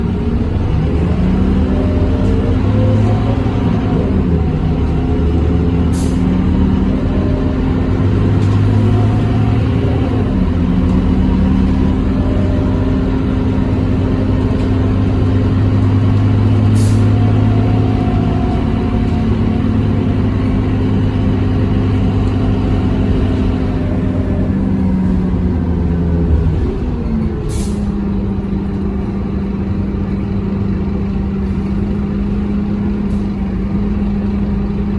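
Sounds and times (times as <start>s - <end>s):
bus diesel engine running: 0.0s - 34.9s.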